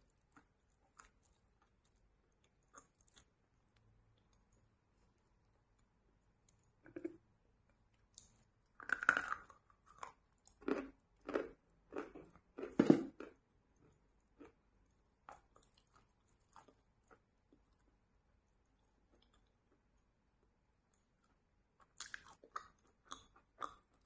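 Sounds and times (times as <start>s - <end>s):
chewing chalk with crunches: 0.0s - 24.0s.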